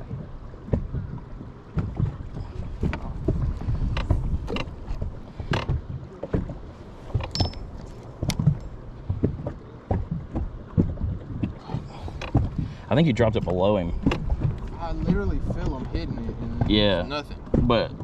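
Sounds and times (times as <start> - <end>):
water slapping boat hull: 0.0 - 18.0
wind buffeting microphone: 0.0 - 18.0.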